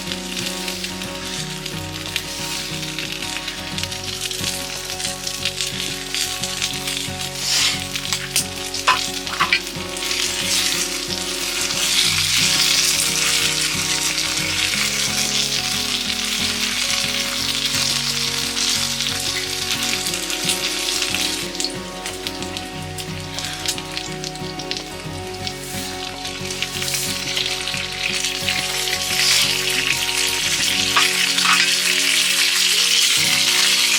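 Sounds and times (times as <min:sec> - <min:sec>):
background music: 0:00.0 - 0:33.9
food sizzling in a pan: 0:00.0 - 0:33.9.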